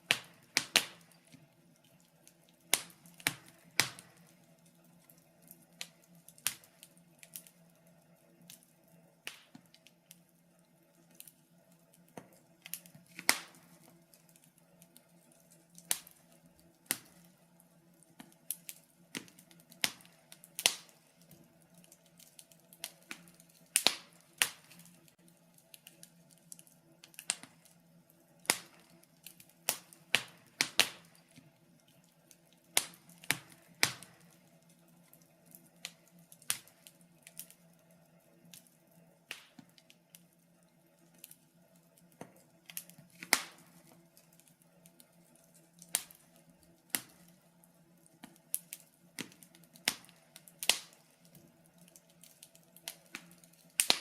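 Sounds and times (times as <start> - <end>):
faint steady hum: 0.0 - 54.0
wood fire crackling and popping: 0.0 - 54.0.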